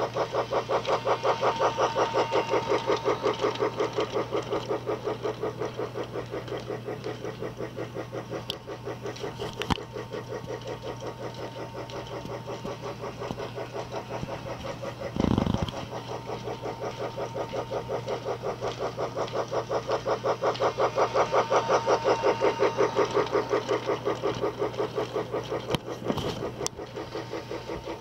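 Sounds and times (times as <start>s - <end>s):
motor hum: 0.0s - 28.0s
toy train chugging: 0.0s - 28.0s.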